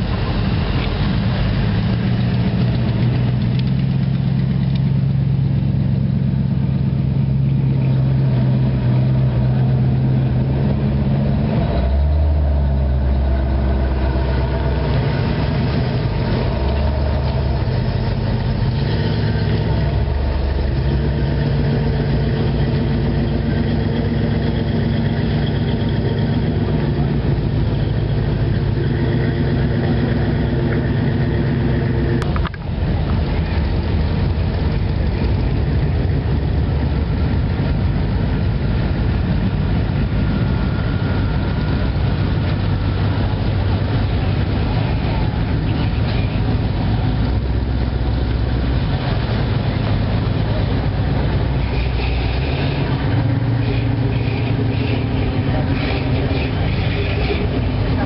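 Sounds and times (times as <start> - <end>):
car engines idling: 0.0 - 58.0.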